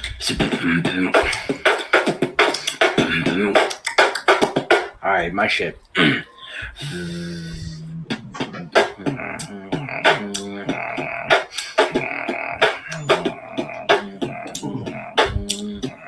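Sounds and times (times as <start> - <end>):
beatboxing: 0.0 - 16.0.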